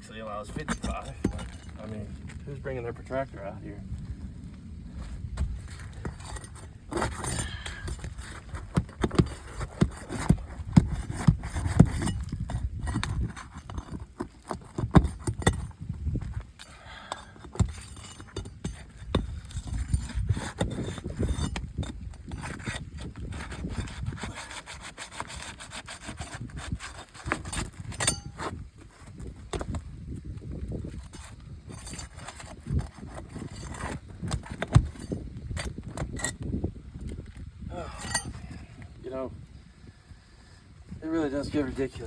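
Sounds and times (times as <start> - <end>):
pry bar scraping shingles: 0.1 - 2.4, 5.0 - 38.9.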